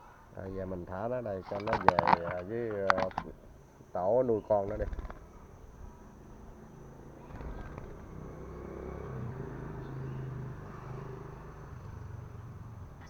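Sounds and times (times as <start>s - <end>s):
low engine hum: 0.4s - 13.0s.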